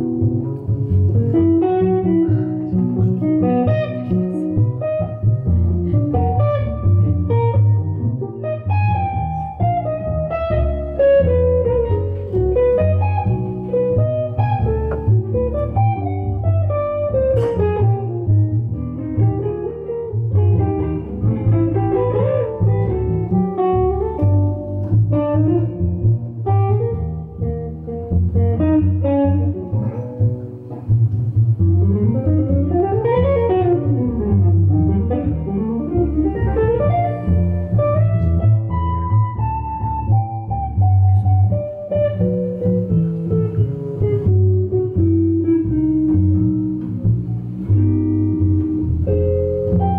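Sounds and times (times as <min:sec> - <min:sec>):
electric guitar solo: 0:00.0 - 0:49.9
plucked double bass: 0:00.0 - 0:49.9.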